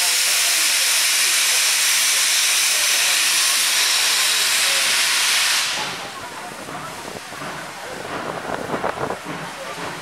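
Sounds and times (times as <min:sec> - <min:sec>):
steam locomotive venting steam: 0:00.0 - 0:10.0.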